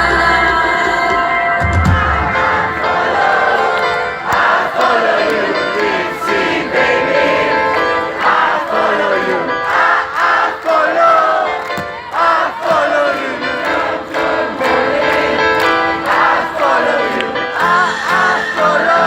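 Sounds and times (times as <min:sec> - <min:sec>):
crowd singing together: 0:00.0 - 0:19.0.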